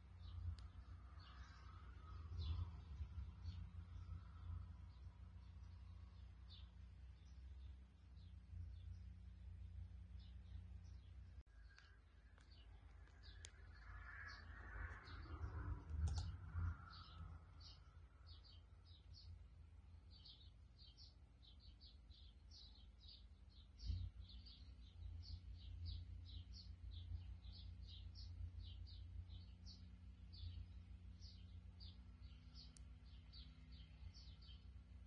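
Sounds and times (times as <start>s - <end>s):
low steady rumble: 0.0s - 35.0s
small birds chirping: 0.0s - 35.0s.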